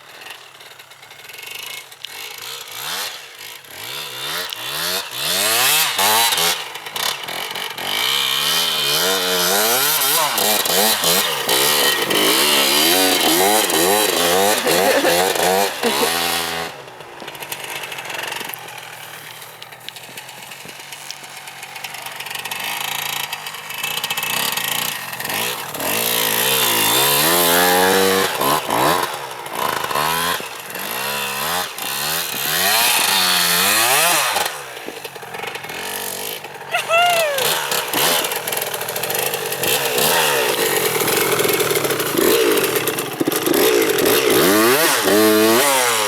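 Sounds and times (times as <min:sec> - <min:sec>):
motocross bike engine revving: 0:02.4 - 0:19.3, 0:21.8 - 0:46.0.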